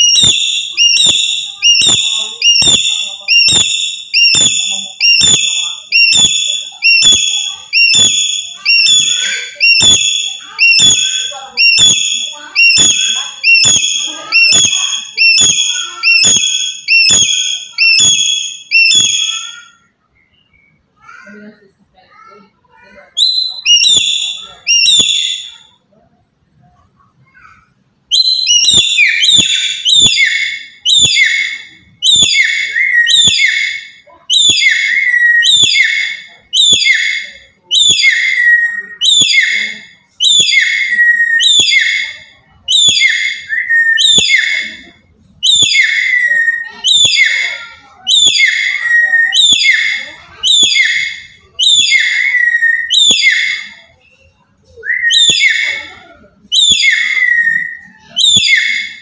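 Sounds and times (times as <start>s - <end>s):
parrot whistling calls: 0.0s - 20.8s, 23.1s - 25.8s, 28.1s - 59.0s.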